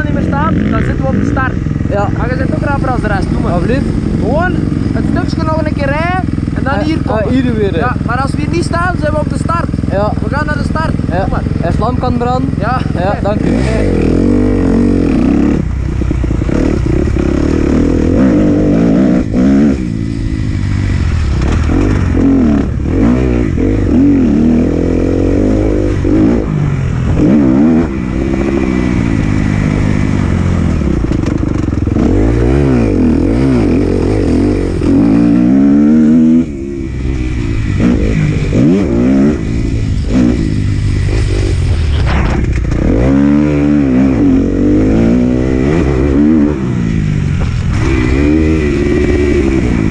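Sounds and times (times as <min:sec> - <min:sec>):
motocross bike engine: 0:00.0 - 0:49.9.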